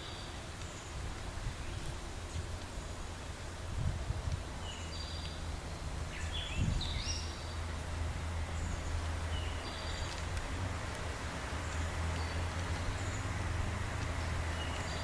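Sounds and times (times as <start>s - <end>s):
small birds chirping: 0.0s - 3.5s, 4.4s - 15.0s
steady low rumble: 1.0s - 15.0s.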